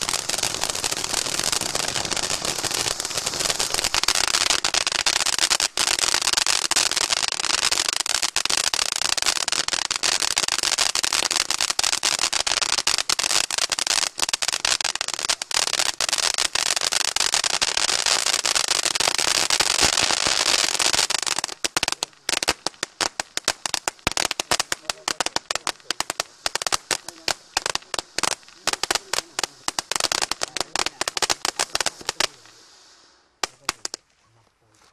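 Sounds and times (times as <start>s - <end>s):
firework crackling and popping: 0.0s - 34.1s.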